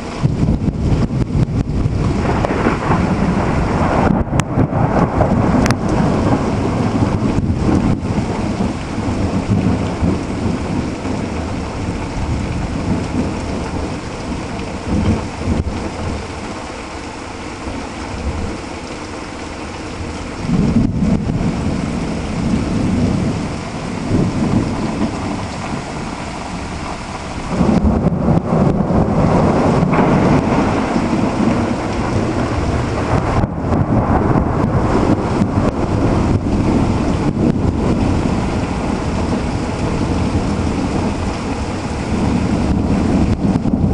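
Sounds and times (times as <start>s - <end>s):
rolling thunder: 0.0s - 16.7s, 19.9s - 43.9s
pouring rain: 0.0s - 43.9s.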